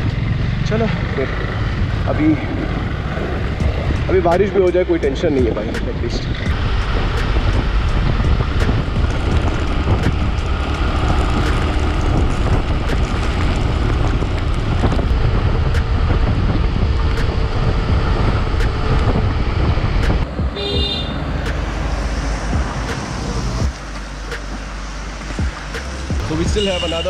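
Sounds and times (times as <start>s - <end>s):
wind buffeting microphone: 0.0s - 24.4s
motorcycle engine rumble: 0.0s - 27.0s.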